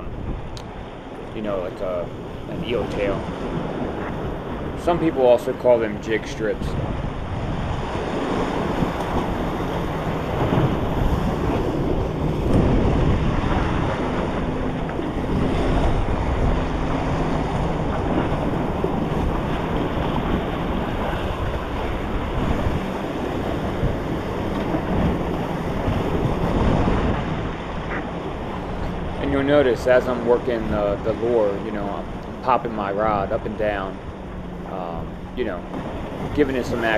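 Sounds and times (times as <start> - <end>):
ocean surf breaking over rocks: 0.0 - 36.9
wind buffeting microphone: 0.0 - 36.9.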